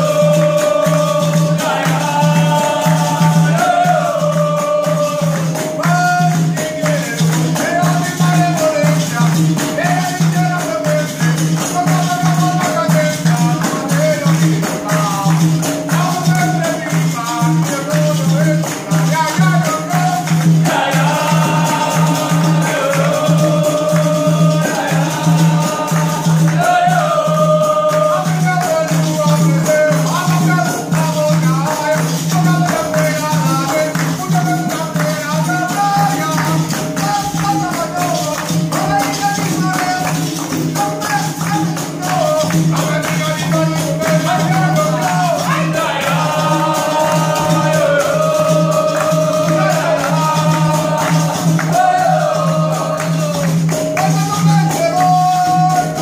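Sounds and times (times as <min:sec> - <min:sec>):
atabaque drum: 0:00.0 - 0:56.0
berimbaus and pandeiro rhythm: 0:00.0 - 0:56.0
group singing: 0:00.0 - 0:56.0
people clapping: 0:00.0 - 0:56.0.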